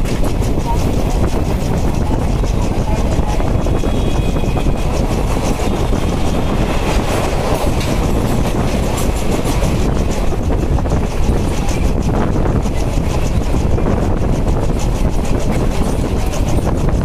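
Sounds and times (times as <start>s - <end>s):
train rumble: 0.0s - 17.0s
wheels clicking over rail joints: 0.0s - 17.0s.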